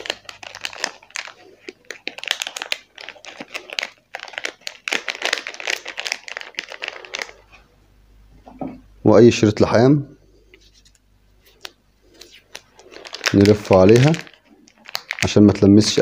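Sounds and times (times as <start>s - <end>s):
plastic wrapping crinkling: 0.0s - 7.7s, 10.5s - 16.0s.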